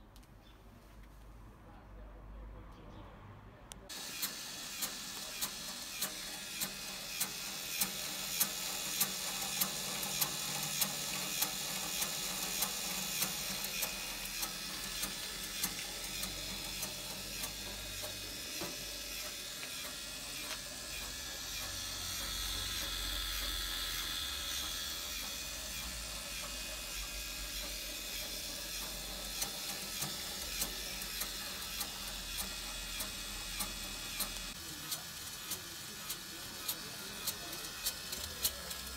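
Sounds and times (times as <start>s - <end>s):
rotisserie motor ticking: 3.9s - 38.9s.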